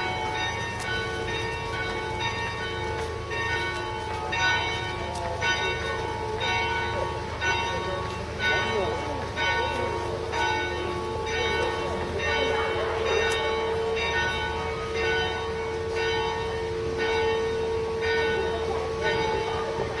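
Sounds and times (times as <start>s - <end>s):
church bells ringing: 0.0s - 20.0s
sustained bell tone hum: 0.0s - 20.0s.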